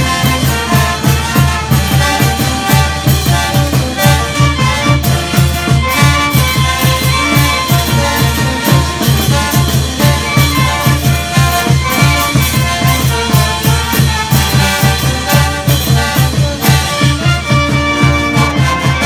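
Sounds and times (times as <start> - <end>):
brass melody: 0.0 - 19.0
drums and cymbal beat: 0.0 - 19.0.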